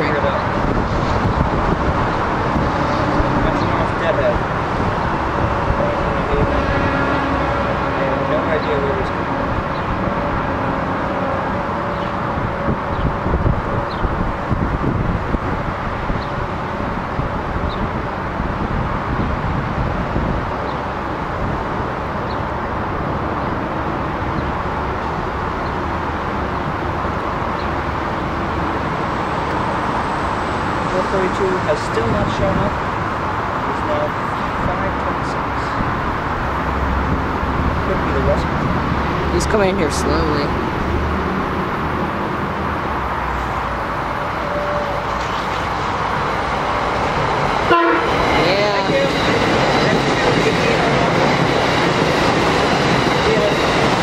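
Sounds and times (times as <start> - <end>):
train wheels and motors rumbling: 0.0 - 54.0.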